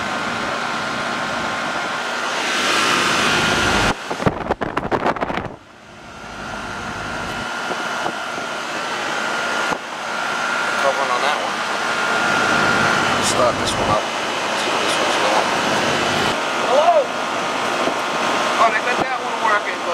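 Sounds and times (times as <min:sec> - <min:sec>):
air conditioner condenser running: 0:00.0 - 0:19.9.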